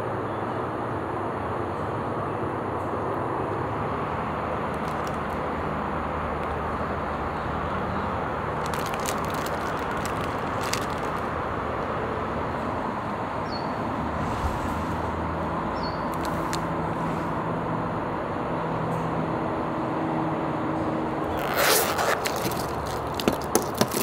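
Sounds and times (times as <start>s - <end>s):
distant road traffic hiss: 0.0s - 24.0s.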